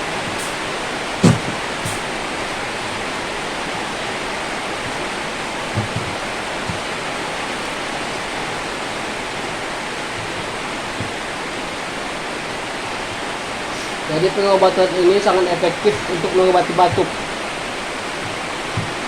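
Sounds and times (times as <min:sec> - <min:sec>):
soft low knocks: 0:00.0 - 0:13.4, 0:14.2 - 0:19.0
steady hiss: 0:00.0 - 0:19.0.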